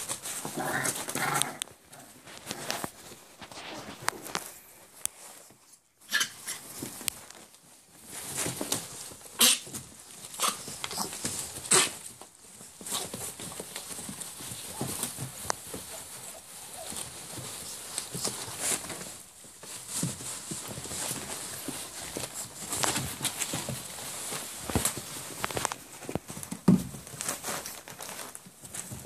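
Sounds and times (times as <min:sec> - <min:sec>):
paper rustling and crinkling: 0:00.0 - 0:29.0.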